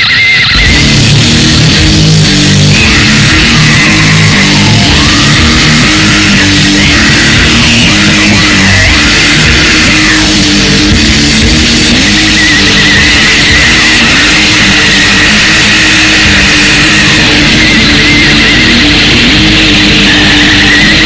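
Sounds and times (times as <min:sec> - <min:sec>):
distorted harsh noise music: 0:00.0 - 0:21.0
wavering high whine: 0:00.0 - 0:21.0.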